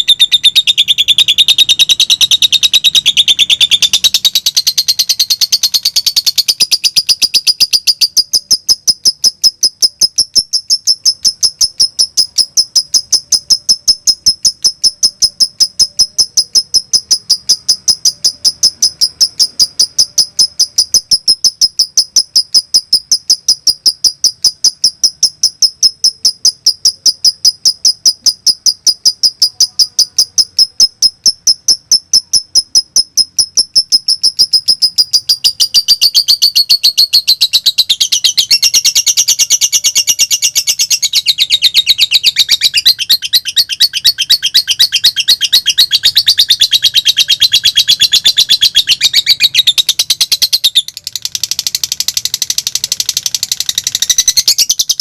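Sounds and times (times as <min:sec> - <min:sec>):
lovebird chirping rapidly: 0:00.0 - 0:55.0.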